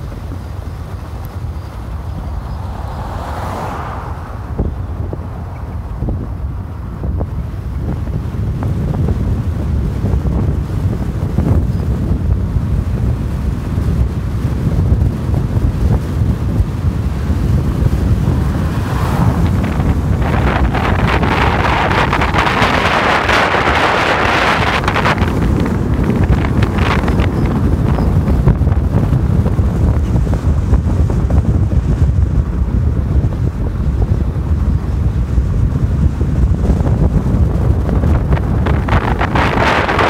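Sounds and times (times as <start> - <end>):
low car rumble: 0.0 - 40.0
wind buffeting microphone: 0.0 - 40.0.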